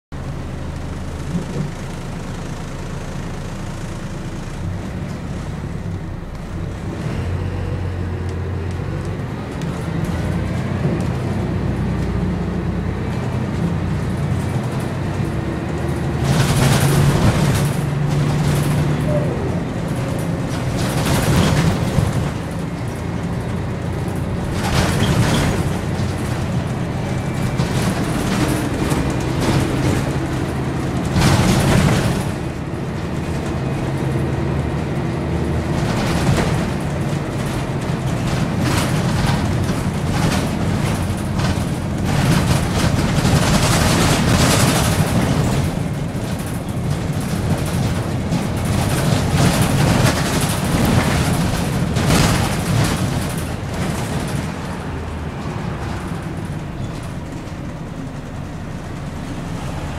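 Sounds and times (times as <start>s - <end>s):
bus diesel engine running: 0.1s - 59.9s.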